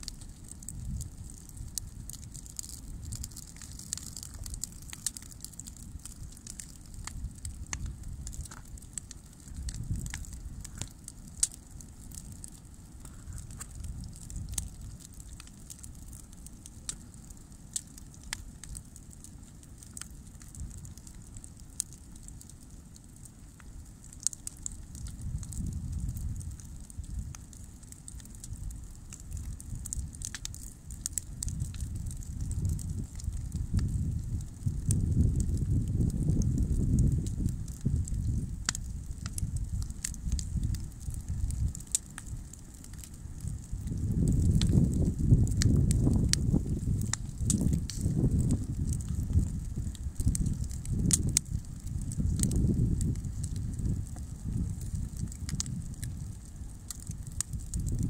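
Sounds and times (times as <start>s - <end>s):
bonfire crackling and popping: 0.0s - 58.0s
low fire rumble: 0.0s - 58.0s.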